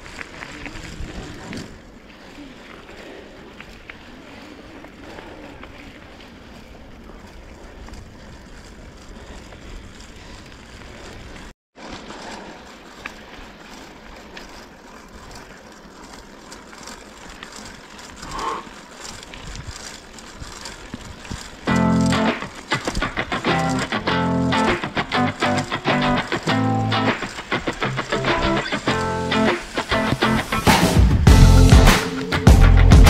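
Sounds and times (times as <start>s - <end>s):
bicycle tyres rolling on road: 0.0s - 31.0s.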